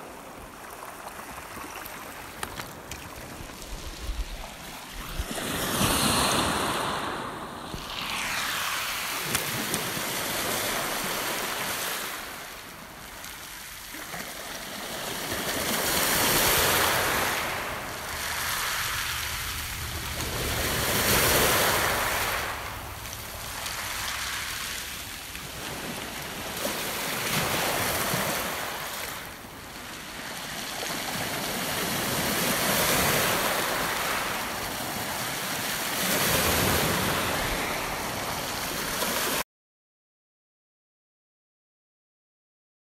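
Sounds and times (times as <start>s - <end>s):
waves washing on pebble beach: 0.0s - 39.4s.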